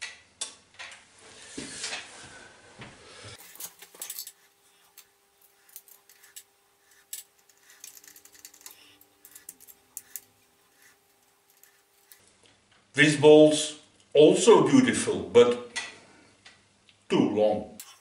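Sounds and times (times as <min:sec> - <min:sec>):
faint steady hum: 0:00.4 - 0:18.0.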